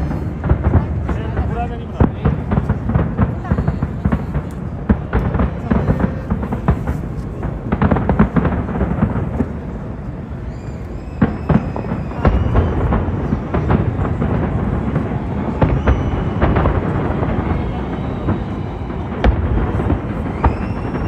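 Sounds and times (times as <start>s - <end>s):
fireworks bangs and booms: 0.0s - 21.0s
fireworks whistling: 0.0s - 21.0s.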